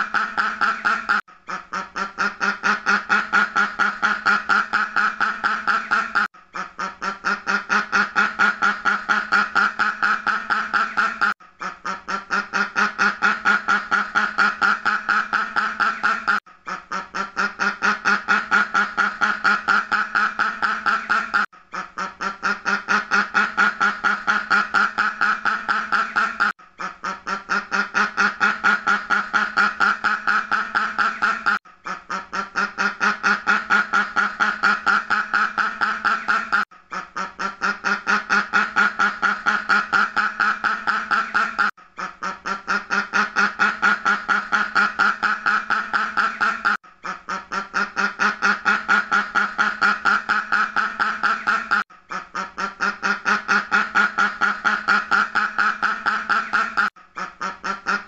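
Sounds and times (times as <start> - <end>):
duck quacking rapidly: 0.0 - 58.0.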